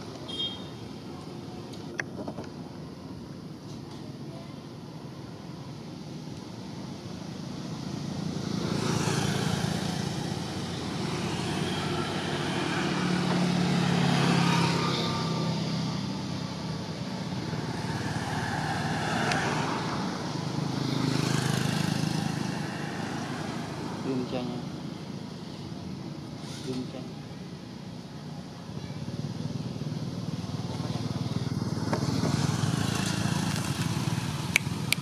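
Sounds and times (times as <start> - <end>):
vehicles passing on a road: 0.0 - 35.0.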